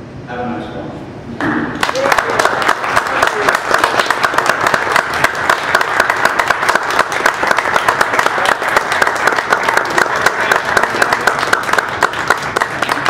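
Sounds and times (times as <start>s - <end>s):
audience applauding: 1.8s - 13.0s.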